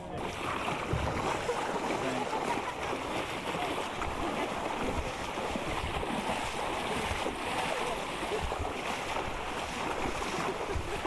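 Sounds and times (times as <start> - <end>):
floodwater sloshing around legs: 0.0 - 11.0.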